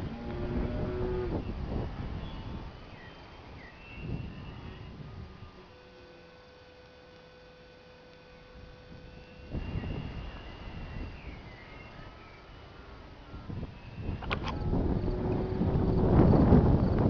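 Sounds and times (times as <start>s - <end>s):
wind gusting across microphone: 0.0s - 5.7s, 8.5s - 17.0s
faint steady whine: 0.0s - 17.0s.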